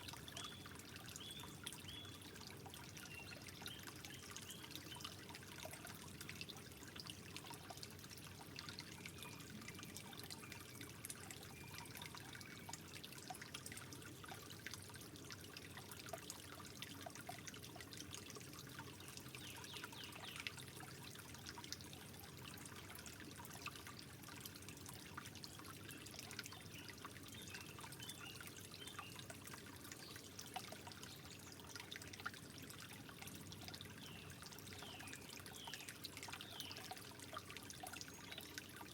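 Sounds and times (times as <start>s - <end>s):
water drips and splashes: 0.0s - 38.9s
water trickling: 0.0s - 38.9s.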